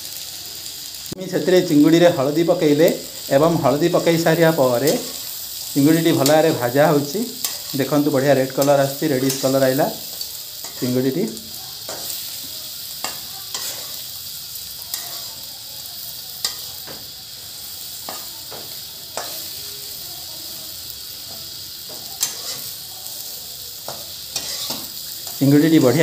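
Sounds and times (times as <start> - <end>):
food sizzling in hot oil: 0.0 - 26.0
spatula scraping a wok: 3.1 - 20.1, 21.0 - 26.0.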